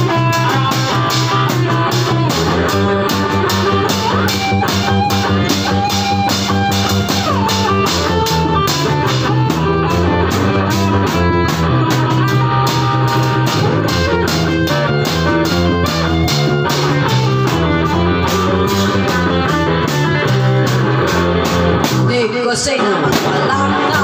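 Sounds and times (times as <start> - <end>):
drum kit beat: 0.0 - 24.0
electric guitars: 0.0 - 24.0.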